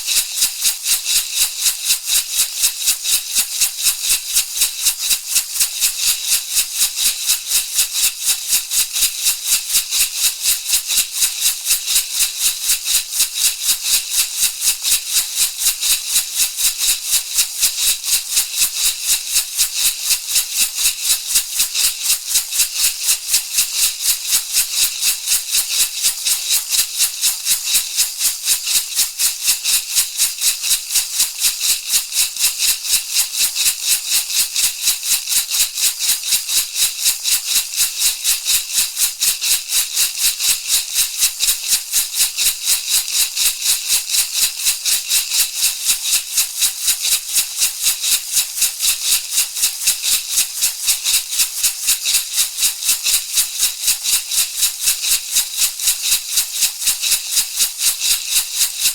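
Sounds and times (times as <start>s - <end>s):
rattle shaken rhythmically: 0.0s - 58.9s.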